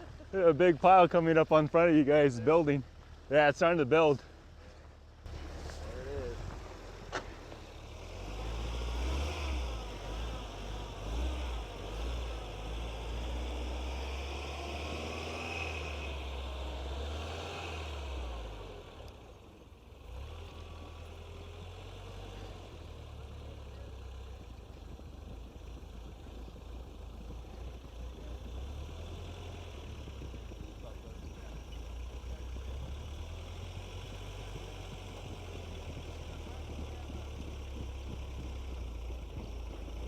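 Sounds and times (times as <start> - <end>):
truck engine in deep snow: 0.0 - 40.0
tyres working through snow: 0.0 - 40.0.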